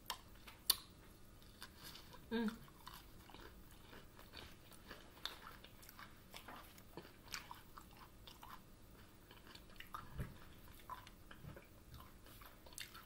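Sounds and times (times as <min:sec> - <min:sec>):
chewing fried onion: 0:00.0 - 0:13.0.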